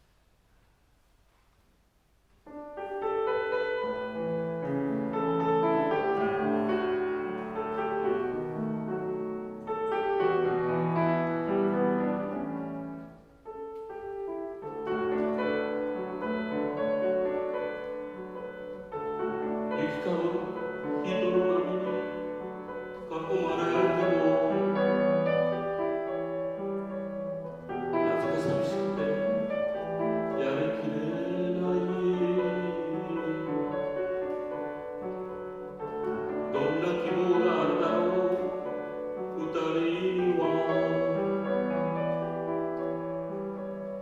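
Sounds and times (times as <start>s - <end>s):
solo piano: 0.0s - 44.0s.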